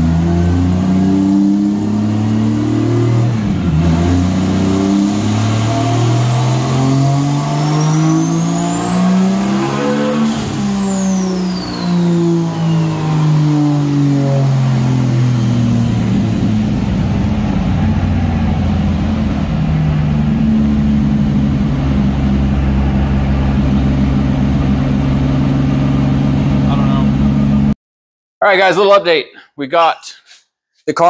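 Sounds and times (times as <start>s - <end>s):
car engine revving on dyno: 0.0s - 27.8s.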